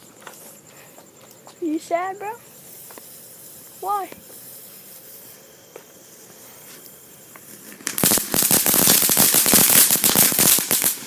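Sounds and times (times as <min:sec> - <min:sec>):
faint hiss: 0:00.0 - 0:11.0
firework crackling pops: 0:01.6 - 0:11.0.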